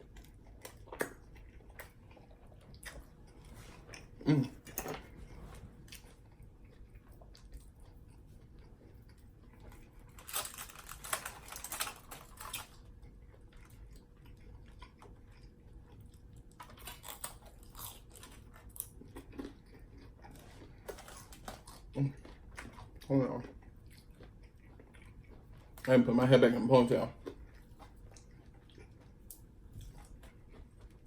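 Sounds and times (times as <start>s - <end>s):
person chewing food: 0.0s - 25.9s, 26.8s - 31.0s.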